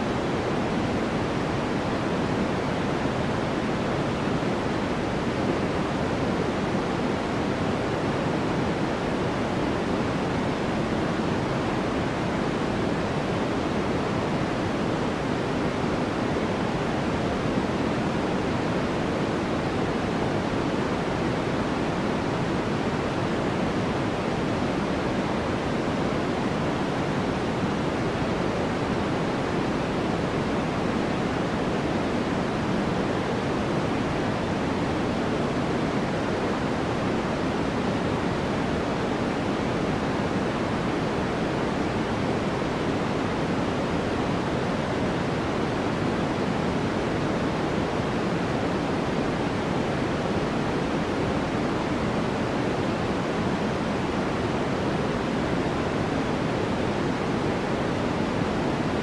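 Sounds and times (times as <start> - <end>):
deep steady white noise: 0.0 - 59.0.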